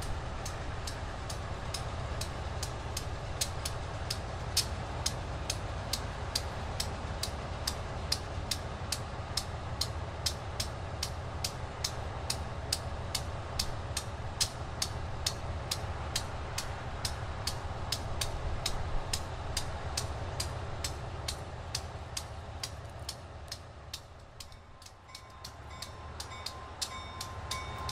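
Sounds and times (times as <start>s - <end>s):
diesel locomotive rumble: 0.0s - 27.9s
sharp even ticking: 0.0s - 27.9s.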